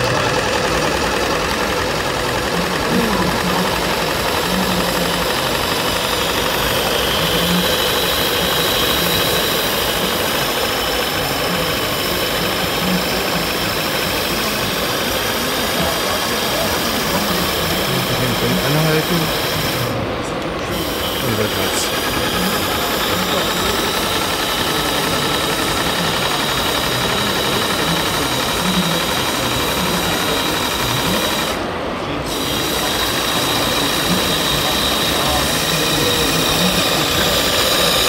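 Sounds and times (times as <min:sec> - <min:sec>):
steam engine hissing: 0:00.0 - 0:38.0.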